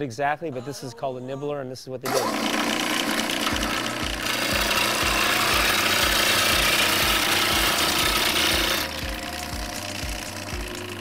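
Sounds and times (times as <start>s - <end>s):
nibbler cutting sheet metal: 2.1s - 11.0s.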